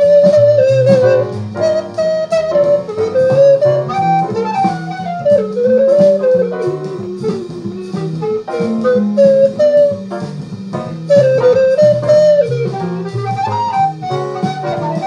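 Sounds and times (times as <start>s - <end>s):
guitar chords: 0.0s - 15.0s
light drums: 0.0s - 15.0s
recorder playing jazz melody: 0.0s - 15.0s.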